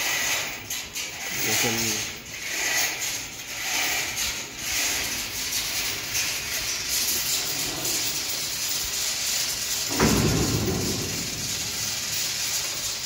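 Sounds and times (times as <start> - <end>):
industrial background hiss: 0.0 - 13.0.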